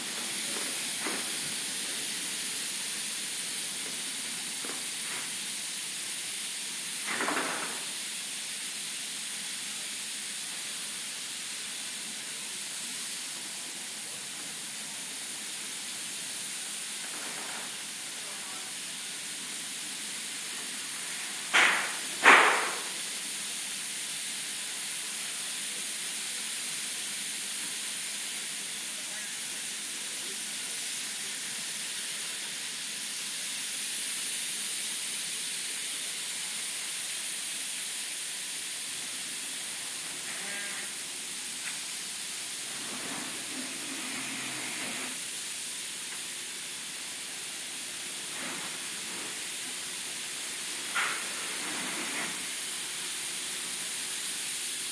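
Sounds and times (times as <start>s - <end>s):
high-pressure water spraying: 0.0s - 54.9s.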